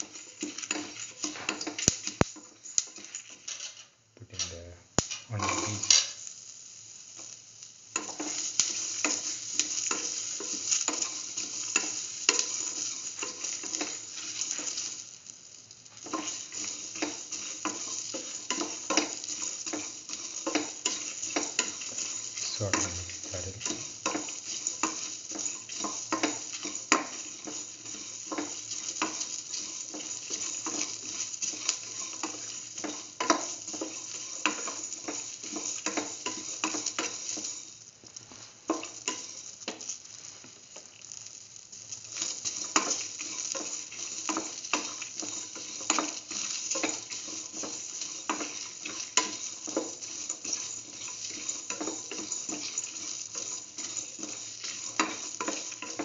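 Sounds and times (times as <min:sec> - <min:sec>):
spatula scraping and tapping pan: 0:00.0 - 0:03.9, 0:07.2 - 0:56.0
onions sizzling in hot oil: 0:00.0 - 0:56.0.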